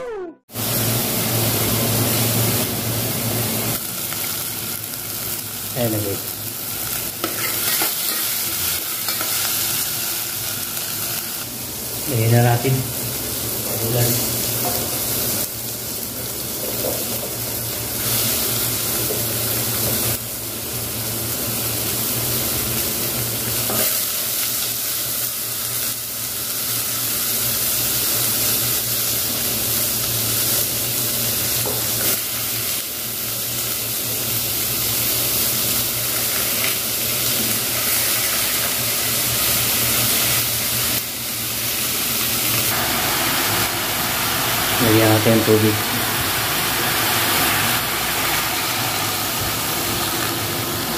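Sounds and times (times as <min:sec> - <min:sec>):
fish sizzling in hot oil: 0:00.5 - 0:50.9.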